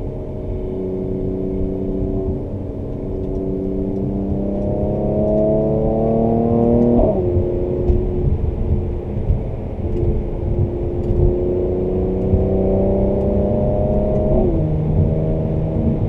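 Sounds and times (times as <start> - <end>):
car engine revving through gears: 0.0 - 16.0.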